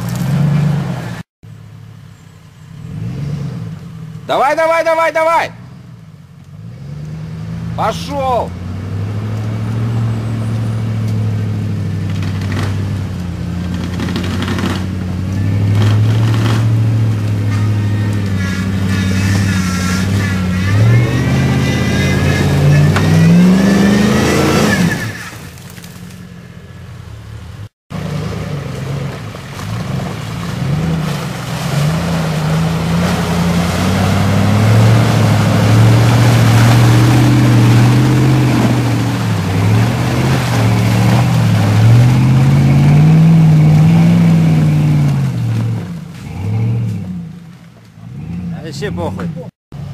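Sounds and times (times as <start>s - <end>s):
off-road vehicle engine: 0.0s - 49.9s.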